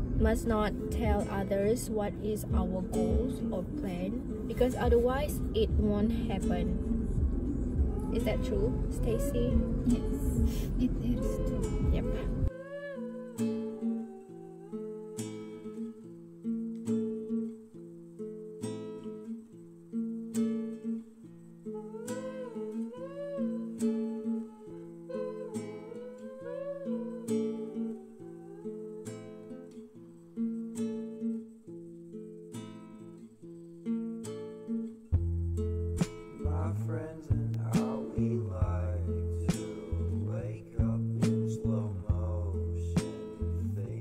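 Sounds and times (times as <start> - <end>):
acoustic guitar chords: 0.0 - 44.0.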